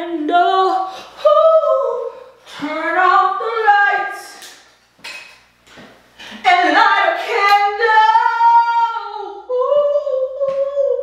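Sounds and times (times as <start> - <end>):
woman singing unaccompanied: 0.0 - 4.5, 6.4 - 11.0.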